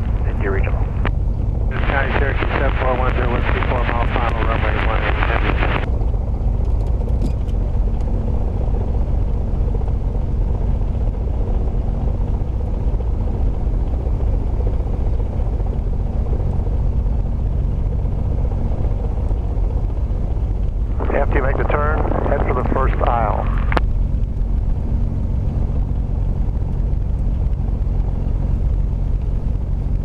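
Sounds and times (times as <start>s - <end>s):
airplane engine idling: 0.0s - 30.0s.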